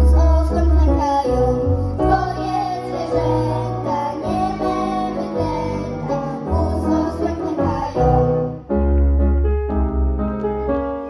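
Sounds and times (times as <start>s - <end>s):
keyboard chords over deep bass: 0.0s - 11.0s.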